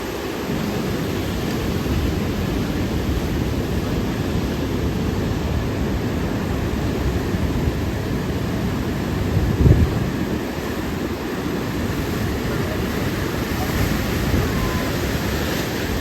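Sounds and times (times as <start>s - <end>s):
storm surf rushing: 0.0s - 16.0s
wind buffeting microphone: 0.0s - 16.0s.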